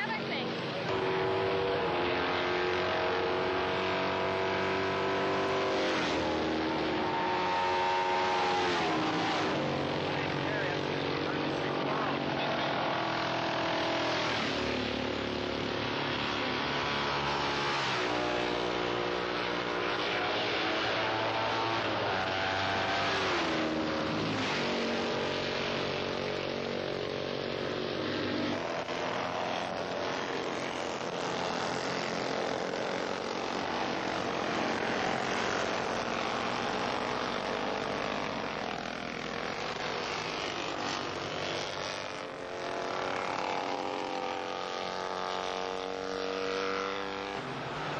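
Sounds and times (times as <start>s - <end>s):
racing motorcycles passing by: 0.0s - 47.9s.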